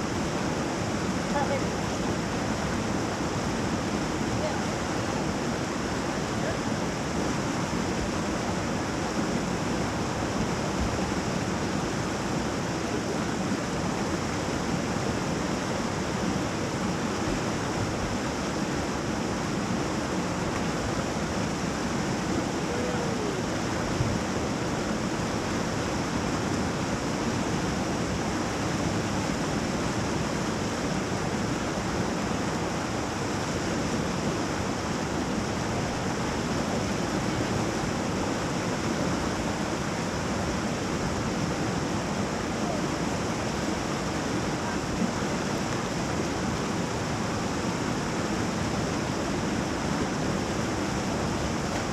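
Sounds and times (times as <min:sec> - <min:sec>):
whitewater rapid rushing: 0:00.0 - 0:51.9.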